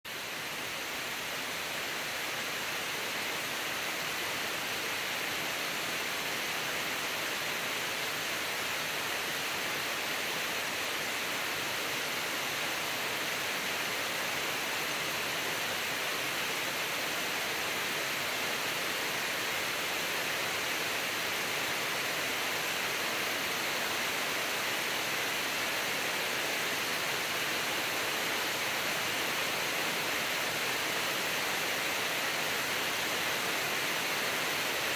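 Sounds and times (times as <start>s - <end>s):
steady rain on trees and lawn: 0.0s - 34.9s.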